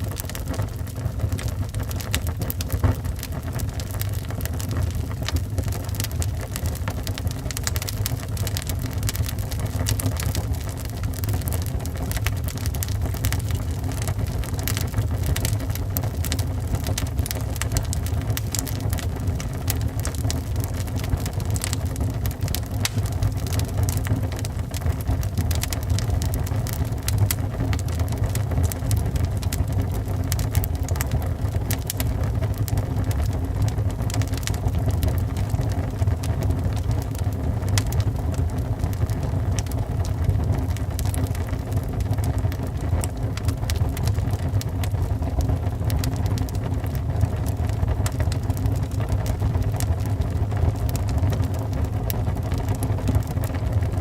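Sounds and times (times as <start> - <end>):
steady low rumble: 0.0 - 46.0
wood fire crackling and popping: 0.0 - 54.0.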